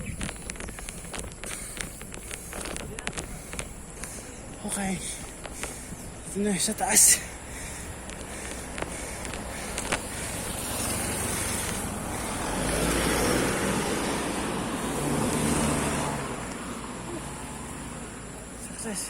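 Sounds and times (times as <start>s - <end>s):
vehicle passing on road: 0.0s - 19.0s.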